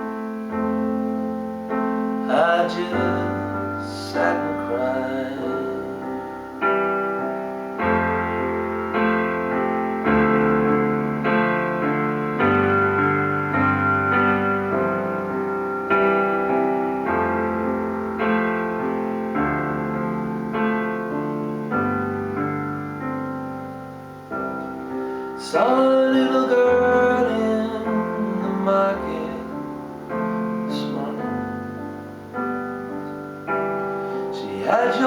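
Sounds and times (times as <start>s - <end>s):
piano-like keyboard chords: 0.0s - 35.0s.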